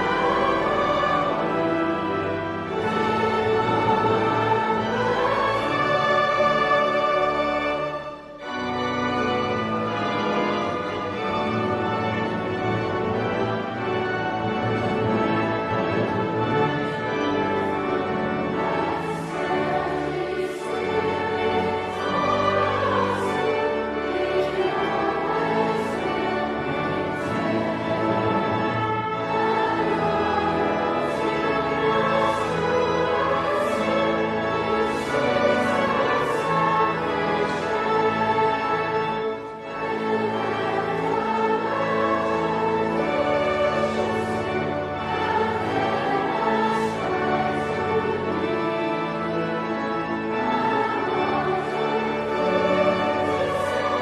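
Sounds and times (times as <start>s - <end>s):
operatic singing with vibrato: 0.0s - 8.5s, 12.2s - 54.0s
orchestral accompaniment: 0.0s - 54.0s.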